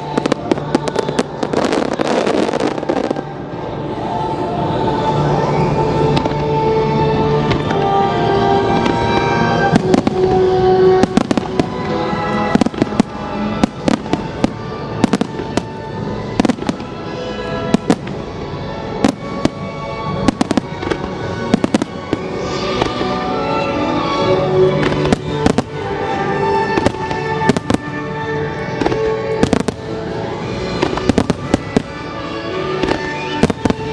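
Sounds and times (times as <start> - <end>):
music: 0.0 - 33.9.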